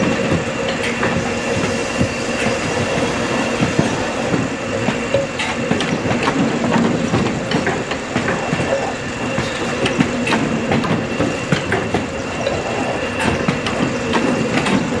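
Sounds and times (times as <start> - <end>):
machine clacks and knocks: 0.0 - 15.0.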